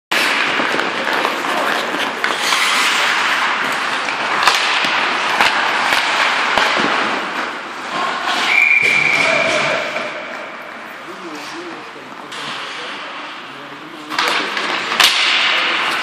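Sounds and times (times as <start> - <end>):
hockey sticks clacking puck: 0.1 - 16.0
skates scraping ice: 0.1 - 16.0.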